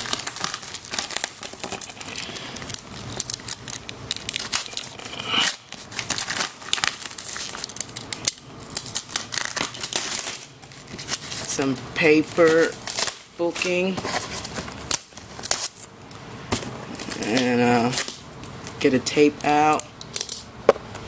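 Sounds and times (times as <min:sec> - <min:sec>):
packaging crinkling and tearing: 0:00.0 - 0:15.9, 0:16.5 - 0:20.4.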